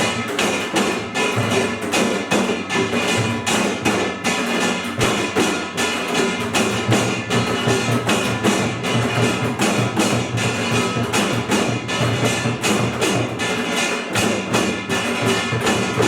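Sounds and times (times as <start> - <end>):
drums playing driving beat: 0.0 - 16.0.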